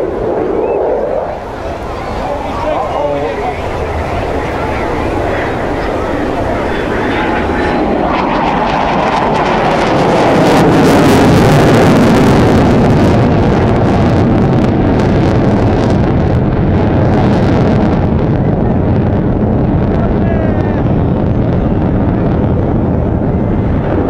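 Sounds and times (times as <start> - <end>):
military jet flying past: 0.0 - 24.0.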